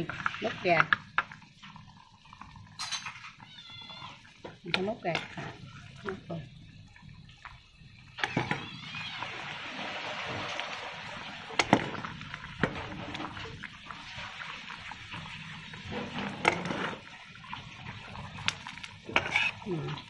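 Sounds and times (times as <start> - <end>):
pot of broth boiling: 0.0 - 20.0.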